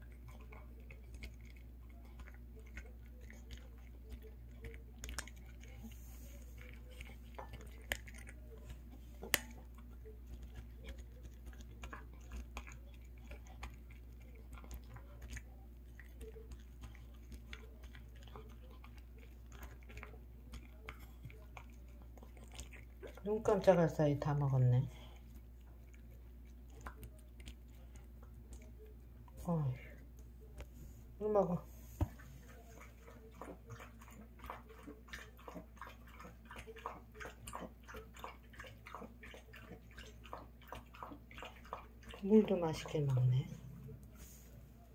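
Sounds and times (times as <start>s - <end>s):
dog chewing food: 0.0s - 44.9s.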